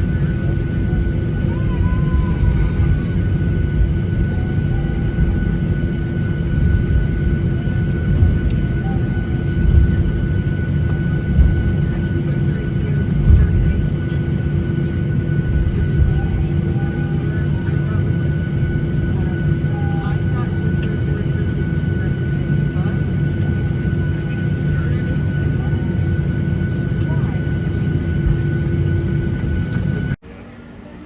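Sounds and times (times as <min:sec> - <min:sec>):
jet airliner rumble and whine: 0:00.0 - 0:31.0.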